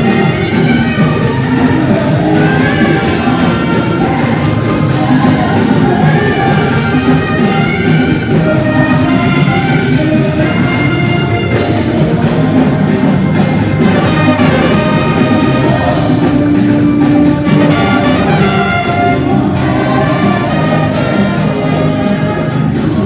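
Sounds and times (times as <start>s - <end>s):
live band with horn section: 0.0s - 23.0s.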